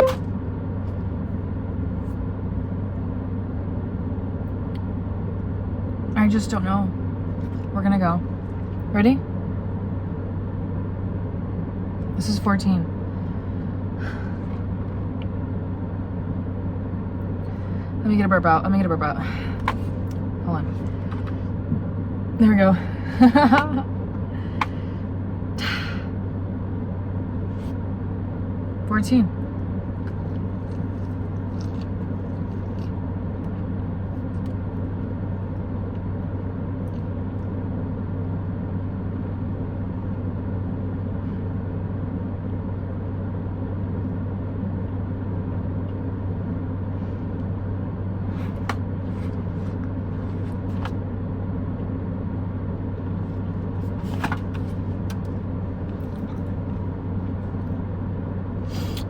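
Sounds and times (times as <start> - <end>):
car cabin engine rumble: 0.0 - 59.0.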